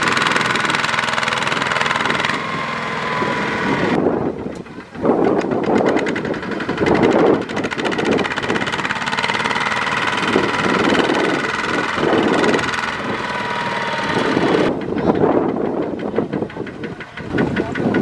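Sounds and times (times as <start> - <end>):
diesel engine straining: 0.0 - 18.0.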